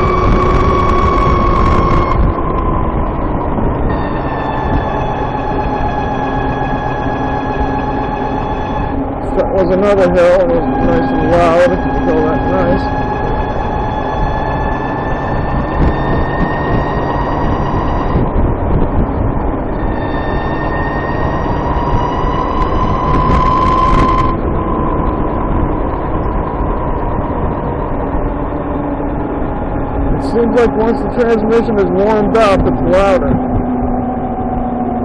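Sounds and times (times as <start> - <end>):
high-pitched transmission whine: 0.0 - 35.0
motorcycle riding: 0.0 - 35.0
road and wind noise: 0.0 - 35.0.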